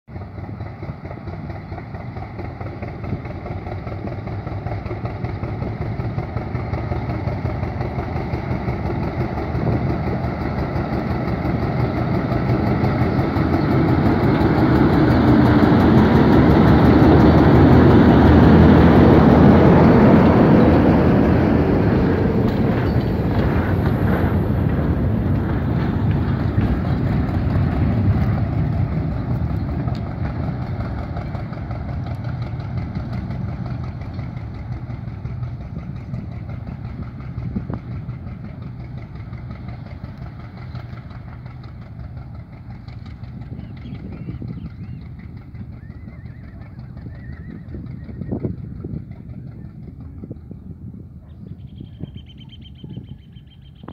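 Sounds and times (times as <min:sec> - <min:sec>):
train cars clicking and knocking: 0:00.1 - 0:50.9
locomotive diesel engine: 0:00.1 - 0:53.9.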